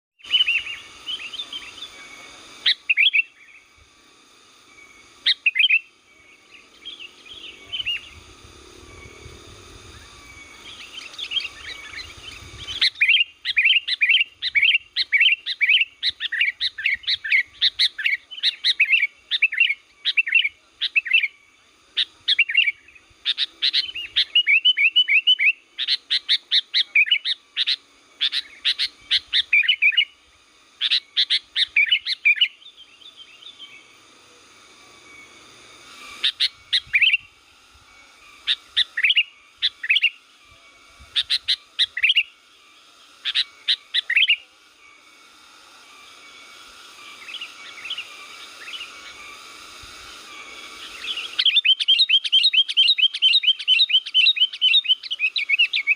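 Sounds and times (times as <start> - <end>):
bird singing chirpy phrases: 0.2 - 3.7, 4.6 - 8.3, 8.9 - 34.0, 38.1 - 45.0, 47.0 - 49.3, 50.3 - 55.9.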